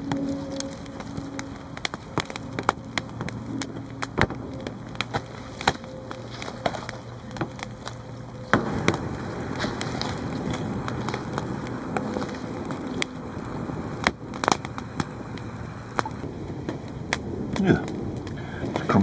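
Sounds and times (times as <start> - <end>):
dry wood cracking and snapping: 0.0 - 19.0.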